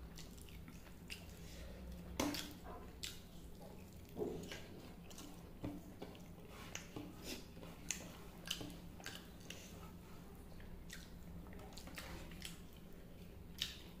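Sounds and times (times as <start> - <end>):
chewing with lip smacks: 0.0 - 14.0.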